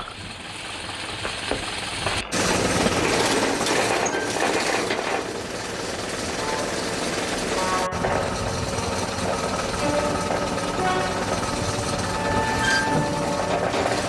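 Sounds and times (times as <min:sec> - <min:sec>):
heavy machinery rattling: 0:00.0 - 0:14.0.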